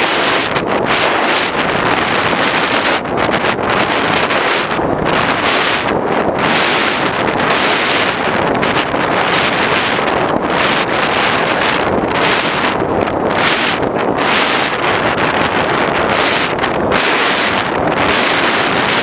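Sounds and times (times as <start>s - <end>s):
airflow buffeting microphone: 0.0s - 19.0s.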